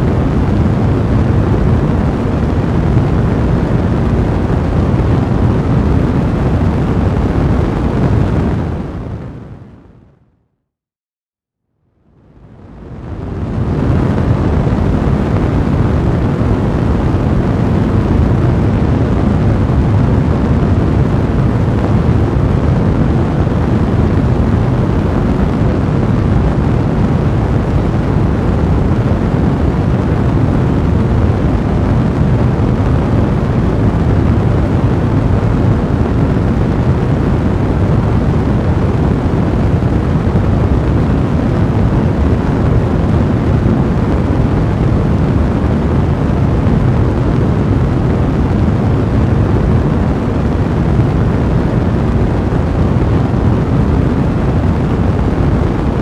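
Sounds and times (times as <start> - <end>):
fire blazing with low roar: 0.0 - 10.4, 11.8 - 56.0.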